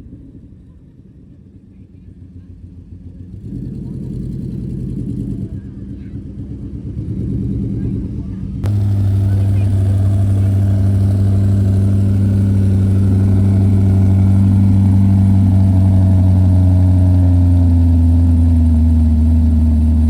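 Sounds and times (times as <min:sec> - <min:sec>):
car engine idling: 0:00.4 - 0:20.0.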